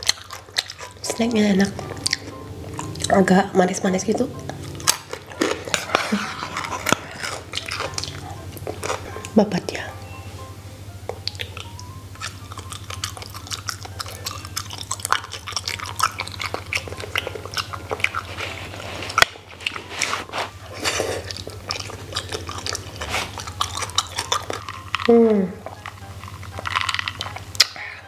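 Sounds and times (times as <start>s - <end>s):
wet chewing clicks and smacks: 0.0s - 3.2s, 4.4s - 9.4s, 11.1s - 19.9s, 20.7s - 28.0s.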